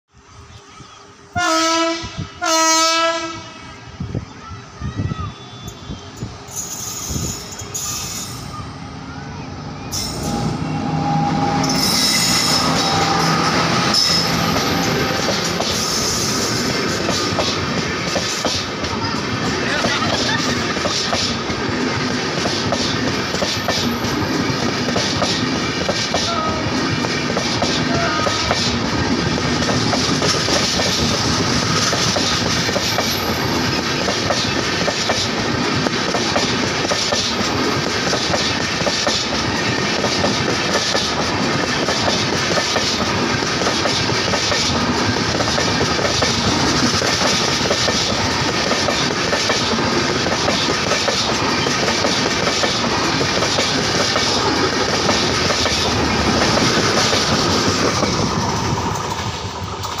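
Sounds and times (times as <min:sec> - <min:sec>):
train coaches rattling past: 0:00.2 - 1:00.0.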